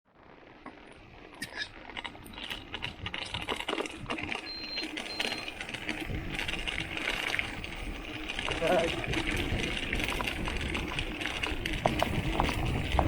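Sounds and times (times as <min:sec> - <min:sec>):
bicycle riding noise: 0:00.1 - 0:13.0.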